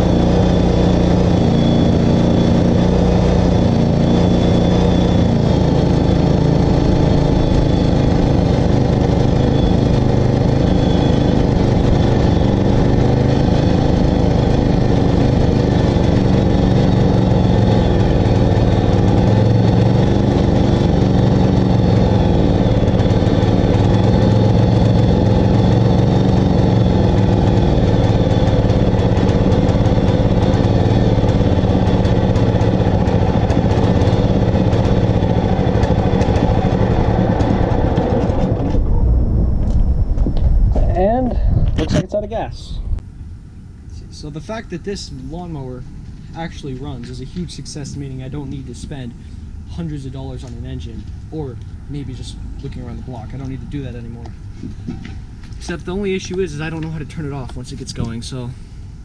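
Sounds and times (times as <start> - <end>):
lawn mower engine running: 0.0 - 40.2, 43.0 - 59.0.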